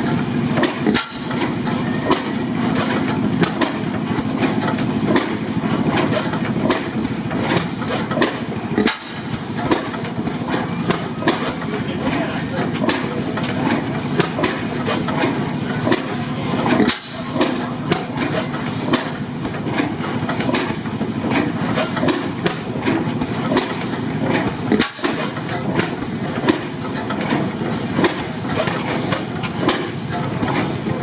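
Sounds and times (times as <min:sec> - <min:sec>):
sharp clicks and knocks: 0:00.0 - 0:31.0
stationary engines rumbling: 0:00.0 - 0:31.0.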